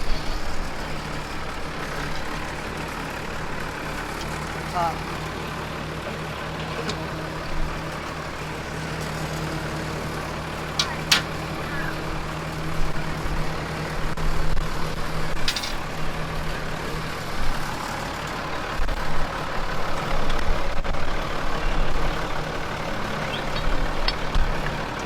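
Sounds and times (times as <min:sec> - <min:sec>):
tractor diesel engine idling: 0:00.0 - 0:25.0.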